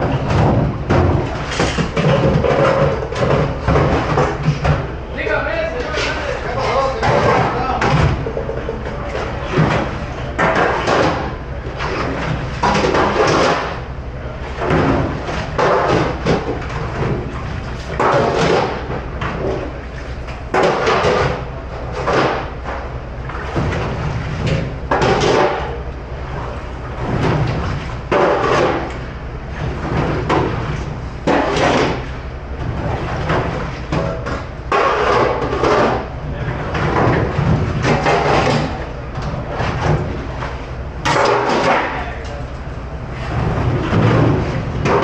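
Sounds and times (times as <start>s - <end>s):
low machine hum: 0.0s - 45.0s.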